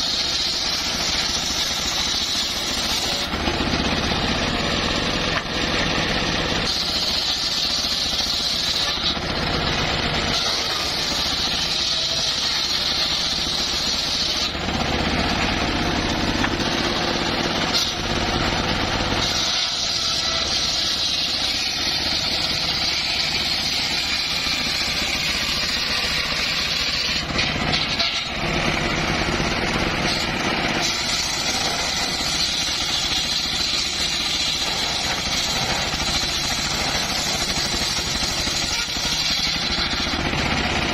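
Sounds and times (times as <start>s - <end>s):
circular saw sawing timber: 0.0s - 40.9s
high saw whine: 0.0s - 40.9s.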